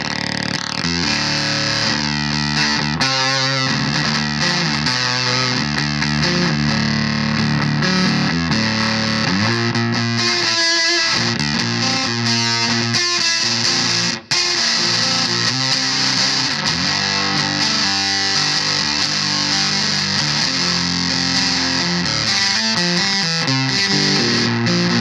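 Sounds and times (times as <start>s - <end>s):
fuzz electric guitar: 0.0s - 25.0s.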